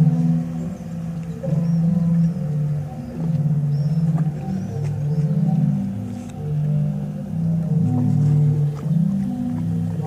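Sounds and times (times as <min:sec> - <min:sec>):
sea organ low held tones: 0:00.0 - 0:10.0.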